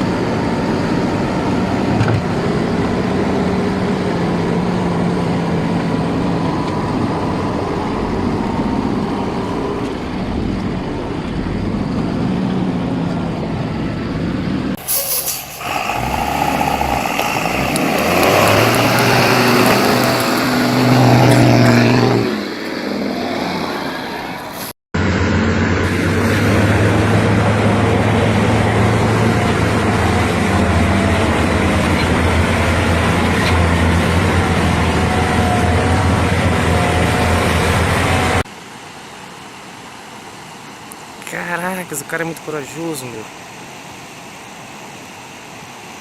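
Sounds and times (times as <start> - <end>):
truck engine under load: 0.0 - 23.2, 24.4 - 38.5
vehicle engine droning: 0.0 - 38.5.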